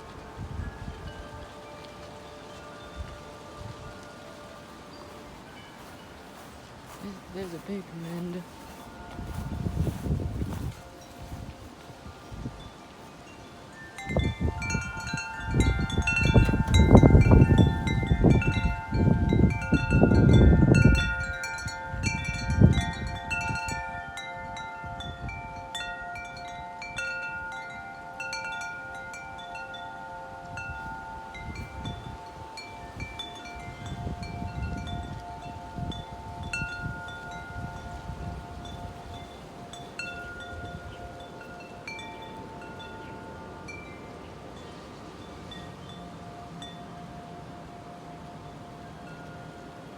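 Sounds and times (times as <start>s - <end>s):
wind buffeting microphone: 0.0s - 27.6s, 29.2s - 47.4s
wind chimes ringing: 0.0s - 49.9s.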